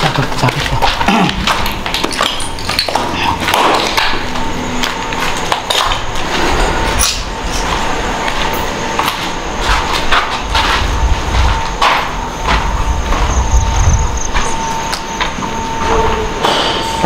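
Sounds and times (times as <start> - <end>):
footsteps on concrete: 0.0 - 16.7
faint steady whine: 0.0 - 17.0.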